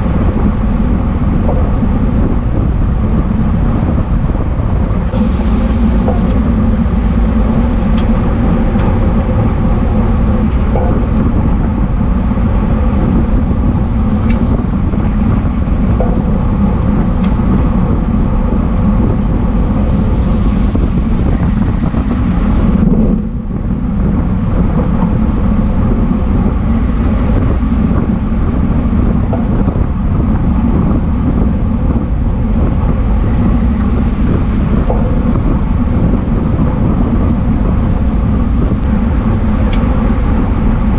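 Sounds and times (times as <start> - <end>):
road noise: 0.0 - 40.9
tyre and drivetrain hum: 0.0 - 40.9
wind rush on microphone: 0.0 - 40.9.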